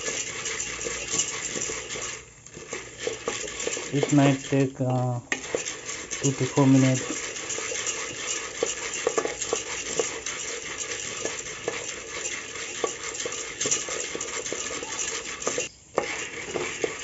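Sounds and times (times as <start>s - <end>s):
oil sizzling: 0.0s - 17.0s
spoon scraping kernels in pot: 0.0s - 17.0s.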